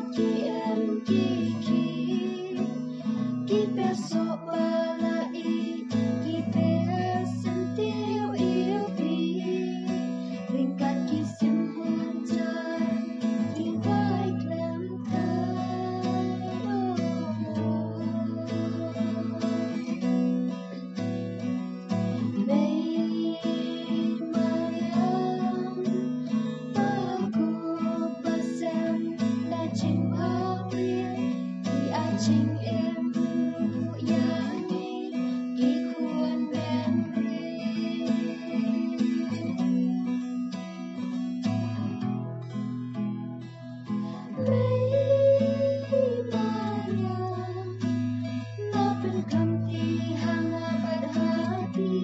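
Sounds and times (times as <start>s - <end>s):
person singing: 0.0s - 20.2s, 22.2s - 40.2s, 44.0s - 52.0s
strummed acoustic guitar: 0.0s - 52.0s.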